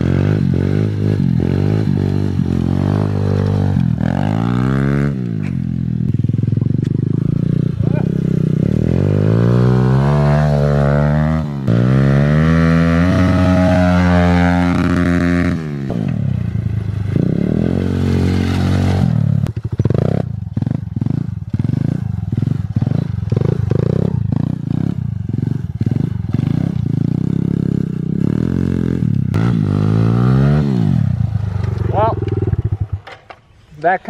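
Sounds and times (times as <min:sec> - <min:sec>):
motorbike engine revving: 0:00.0 - 0:33.4.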